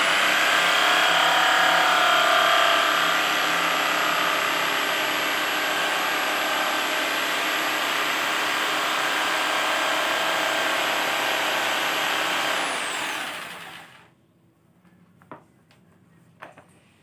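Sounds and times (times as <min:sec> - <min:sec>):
electric jigsaw cutting acrylic: 0:00.0 - 0:14.1
jigsaw motor spinning down: 0:00.0 - 0:14.1.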